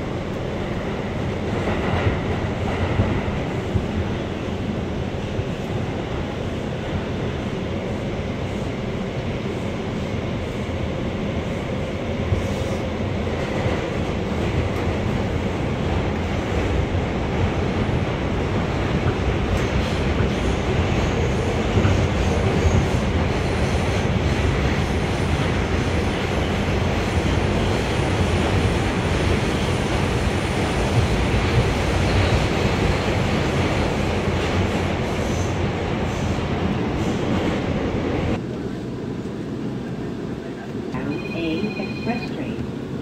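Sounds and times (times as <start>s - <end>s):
subway wheels rumbling on rail: 0.0s - 43.0s.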